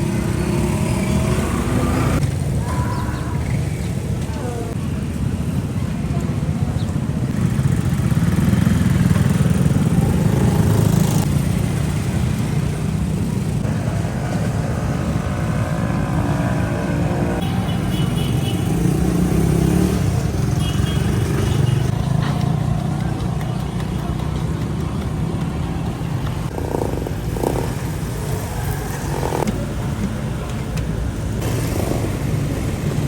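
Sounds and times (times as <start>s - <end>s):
motorcycle engines rumbling: 0.0s - 33.0s
street traffic: 0.0s - 33.0s.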